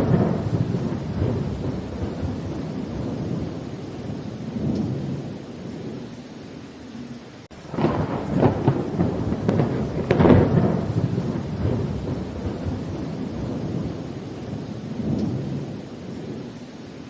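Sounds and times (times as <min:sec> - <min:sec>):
thunderclap rumbling: 0:00.0 - 0:06.2, 0:07.5 - 0:16.7
rain falling: 0:00.0 - 0:17.0.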